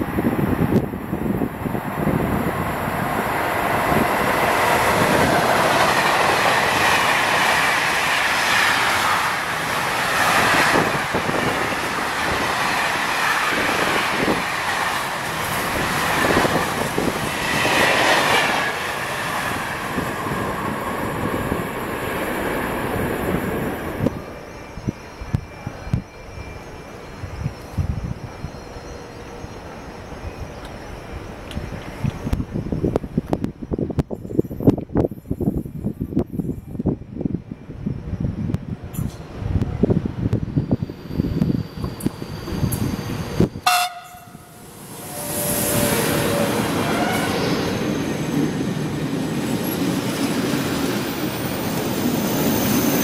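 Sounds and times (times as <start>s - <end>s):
metallic rail noise: 0.0s - 37.0s, 37.8s - 53.0s
freight train passing: 0.0s - 53.0s.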